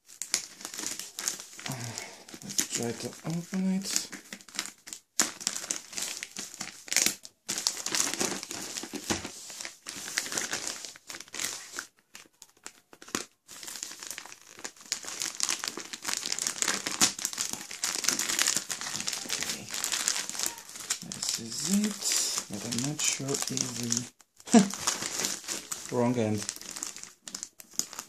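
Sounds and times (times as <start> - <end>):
plastic mailer bag crinkling: 0.0 - 28.0.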